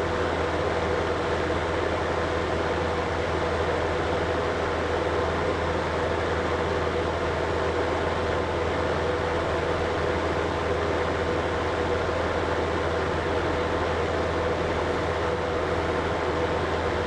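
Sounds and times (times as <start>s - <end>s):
air conditioner running: 0.0s - 17.0s.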